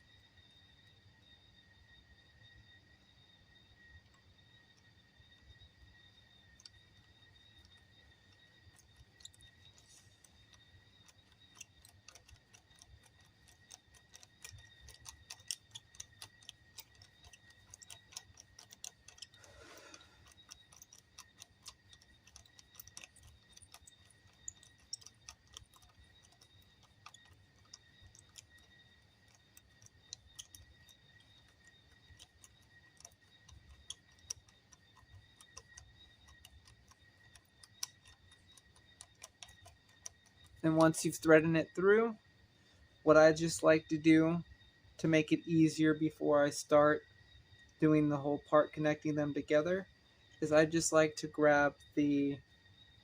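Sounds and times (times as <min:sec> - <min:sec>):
faint high-pitched whine: 0:00.0 - 0:53.0.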